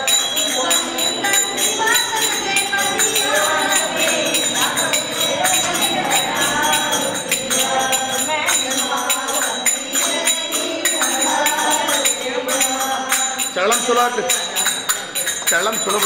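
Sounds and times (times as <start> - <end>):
jingling percussion: 0.0 - 16.0
women singing together: 0.0 - 16.0.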